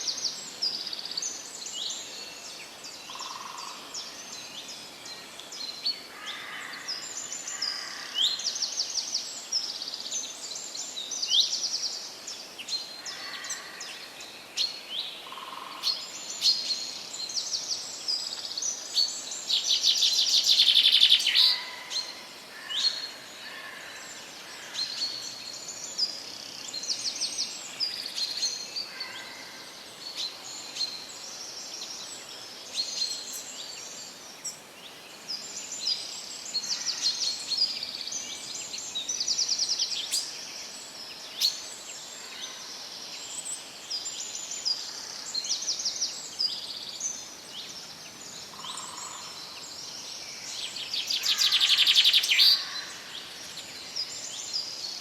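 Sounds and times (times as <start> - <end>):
faint background hiss: 0.0 - 55.0
songbirds singing: 0.0 - 55.0.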